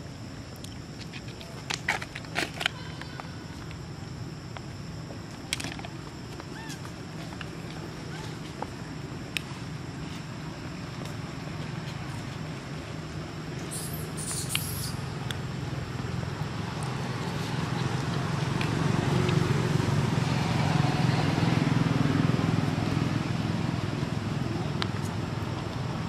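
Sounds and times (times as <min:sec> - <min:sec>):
motor vehicle engine rumble: 0:04.2 - 0:26.0.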